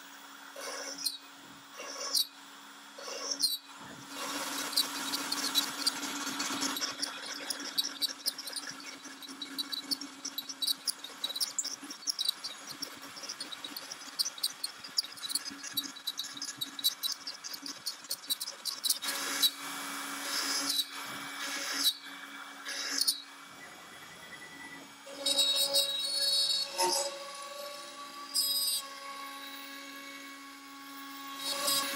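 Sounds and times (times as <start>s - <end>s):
router spindle humming: 0.2s - 31.9s.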